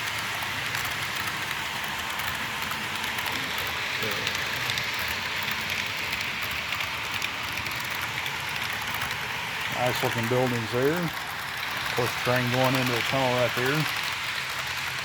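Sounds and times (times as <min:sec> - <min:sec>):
model train wheels rolling on track: 0:00.0 - 0:15.0
small irregular clicks: 0:00.0 - 0:15.0.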